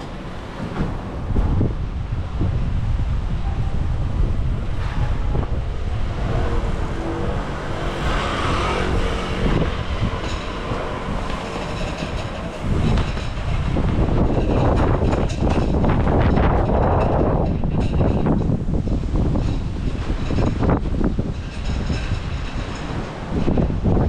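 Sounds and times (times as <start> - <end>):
train rumbling past: 0.0 - 24.0
wind buffeting microphone: 0.0 - 24.0.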